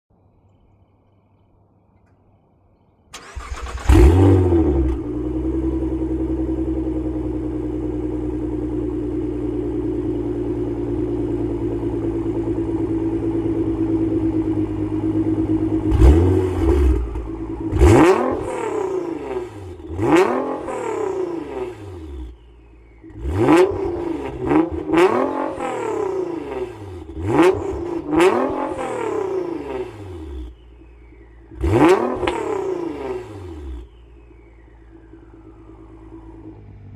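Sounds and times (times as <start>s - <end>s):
car engine starting and idling: 3.1s - 36.9s
engine throttle blips: 3.1s - 36.9s.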